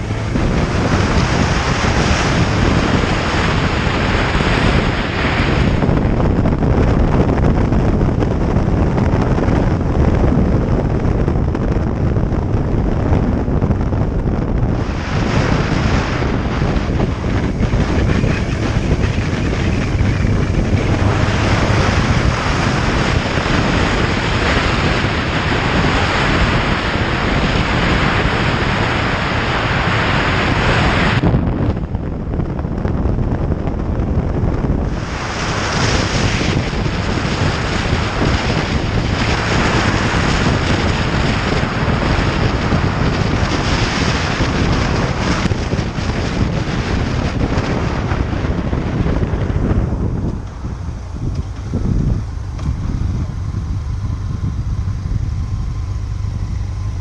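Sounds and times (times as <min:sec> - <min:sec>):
road and vehicle noise: 0:00.0 - 0:57.0
wind buffeting microphone: 0:00.0 - 0:57.0.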